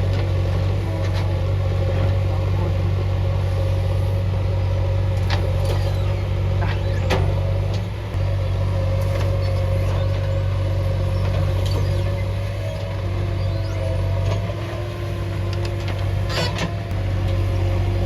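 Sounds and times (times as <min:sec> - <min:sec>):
diesel backhoe engine running: 0:00.0 - 0:18.0.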